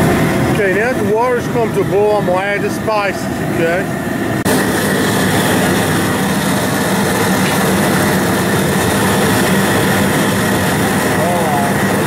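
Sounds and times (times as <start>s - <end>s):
gas burner rushing: 0.0s - 12.0s.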